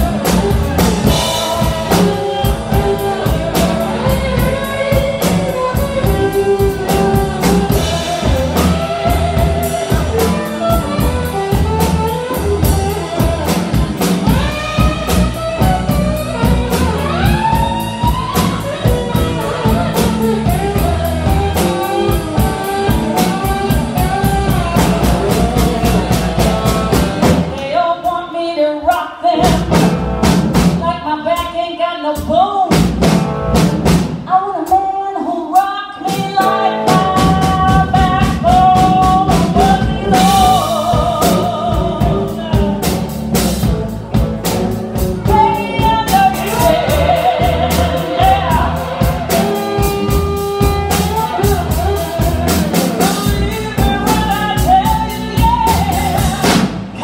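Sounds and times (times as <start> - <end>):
woman singing: 0.0 - 29.9, 30.6 - 32.9, 34.2 - 43.9, 44.9 - 57.0
blues band playing: 0.0 - 57.0.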